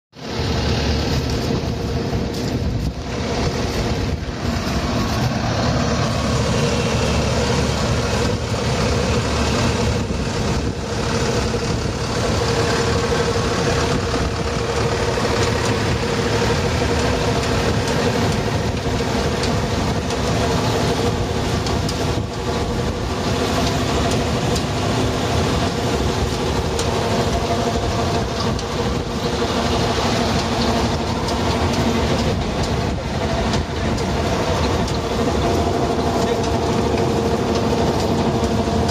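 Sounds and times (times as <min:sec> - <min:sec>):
tractor harvester mechanical drone: 0:00.2 - 0:38.9
rattling clatter: 0:00.9 - 0:38.9.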